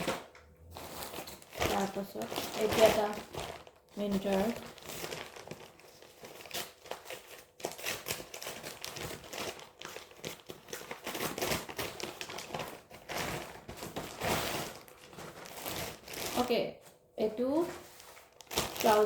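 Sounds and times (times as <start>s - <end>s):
parcel packaging crinkling: 0.0s - 19.0s.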